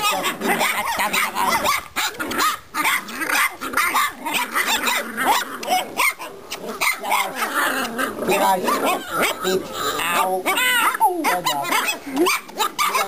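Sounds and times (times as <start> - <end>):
puppies yipping and whining: 0.0 - 13.0.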